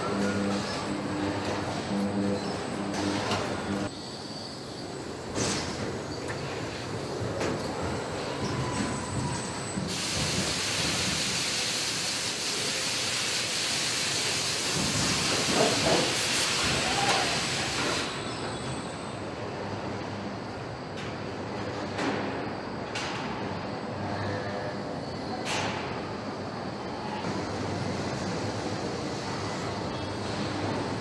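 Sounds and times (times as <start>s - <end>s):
low factory rumble: 0.0s - 31.0s.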